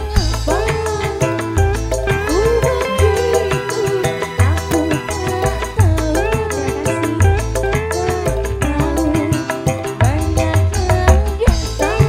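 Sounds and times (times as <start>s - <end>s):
live band playing through pa: 0.0s - 12.0s.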